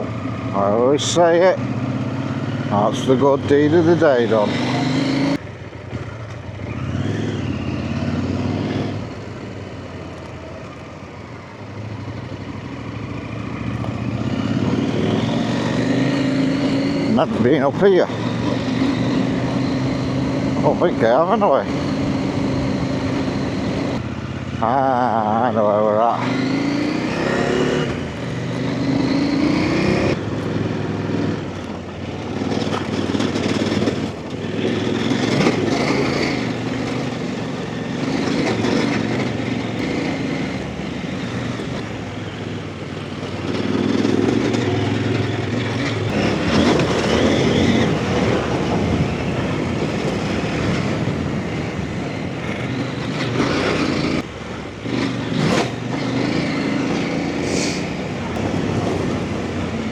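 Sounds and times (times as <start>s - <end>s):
off-road motorcycle engine revving: 0.0s - 59.9s.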